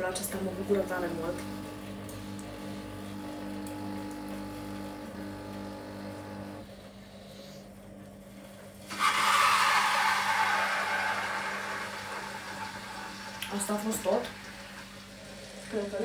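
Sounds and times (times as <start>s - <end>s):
coffee machine pump hum: 0.0s - 16.0s.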